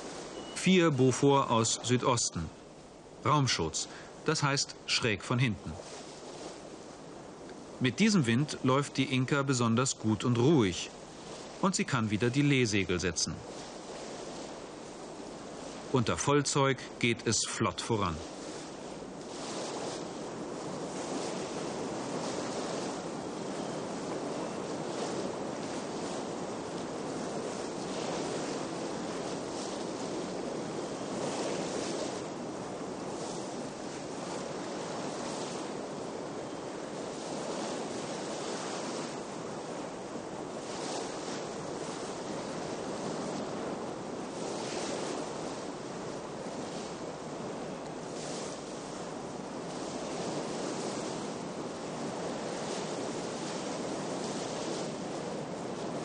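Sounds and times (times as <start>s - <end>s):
water hissing along a hull: 0.0s - 17.0s, 18.1s - 56.0s.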